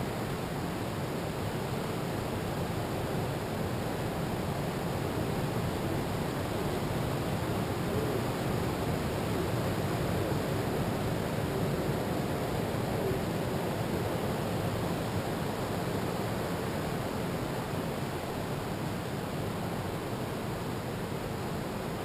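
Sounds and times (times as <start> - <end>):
ocean surf washing onto beach: 0.0 - 22.0
wind: 0.0 - 22.0.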